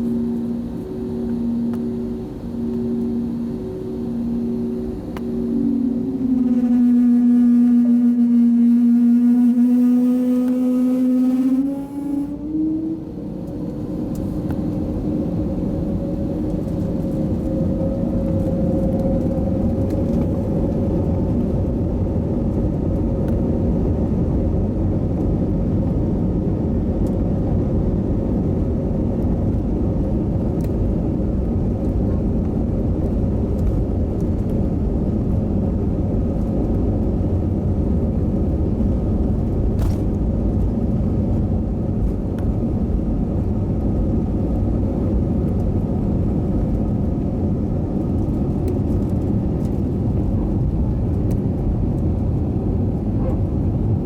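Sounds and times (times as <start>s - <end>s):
jet engines rumbling at takeoff: 0.0s - 54.0s.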